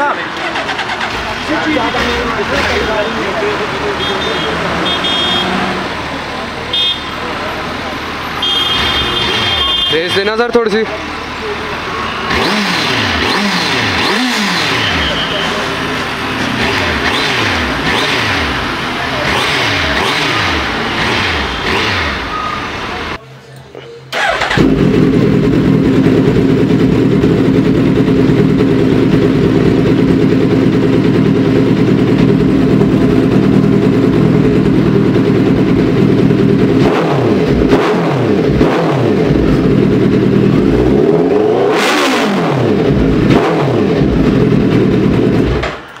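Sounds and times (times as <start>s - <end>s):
motorcycle engine idling and revving: 0.0s - 23.2s, 24.2s - 46.0s.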